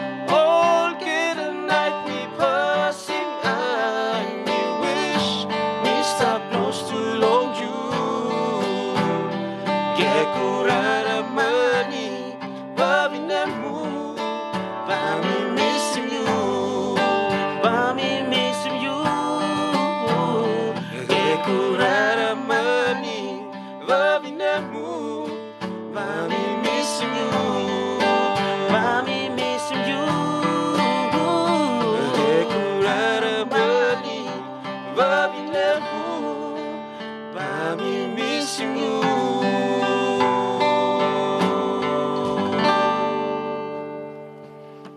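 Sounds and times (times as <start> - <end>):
man singing: 0.0 - 43.4
acoustic guitar strummed: 0.0 - 44.9.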